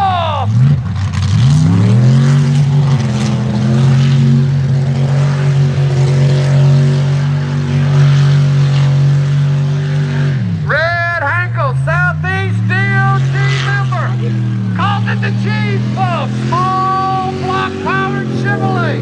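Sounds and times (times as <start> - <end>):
truck engine revving high: 0.0 - 19.0.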